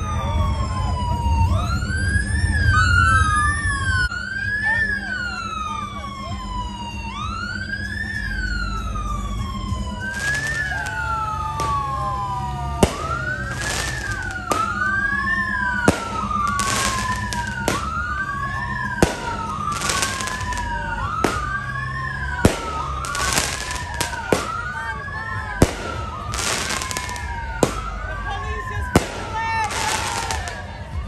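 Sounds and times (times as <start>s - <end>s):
police siren wailing: 0.0s - 31.0s.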